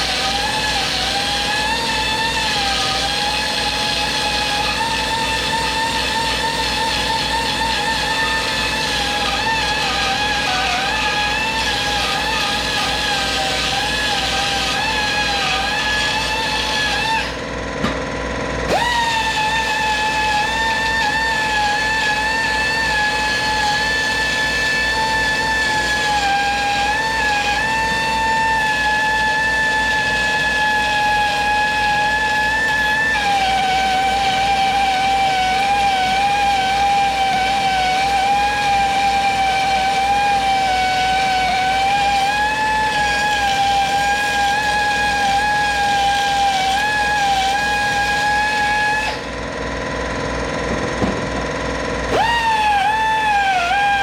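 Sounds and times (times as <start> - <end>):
electric grinder whining: 0.0 - 54.0.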